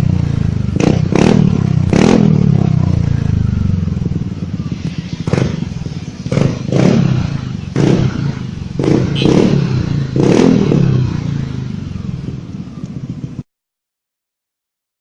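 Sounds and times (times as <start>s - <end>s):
scooter engine idling and revving: 0.0s - 13.5s.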